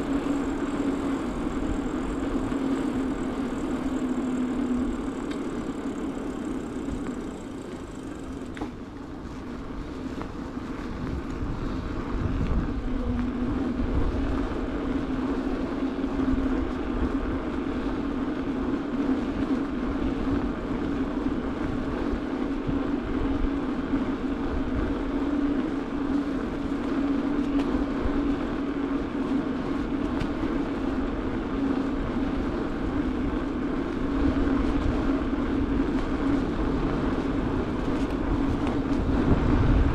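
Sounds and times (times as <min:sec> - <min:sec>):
bicycle tyres humming on asphalt: 0:00.0 - 0:39.9
wind rumble on microphone: 0:00.0 - 0:39.9.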